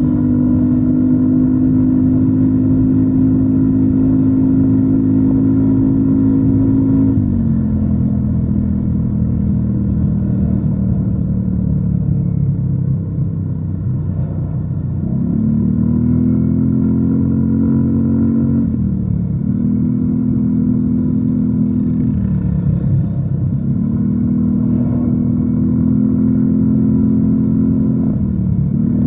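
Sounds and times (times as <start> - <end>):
scooter engine cruising: 0.0 - 29.0.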